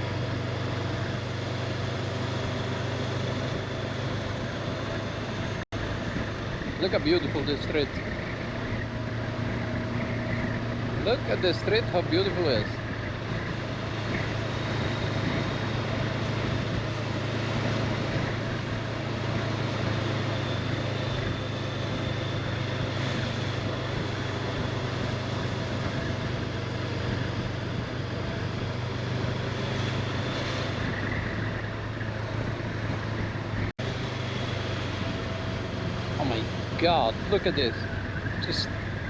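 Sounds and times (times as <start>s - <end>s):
motorcycle engine cruising: 0.0s - 39.0s
wind and road noise: 0.0s - 39.0s.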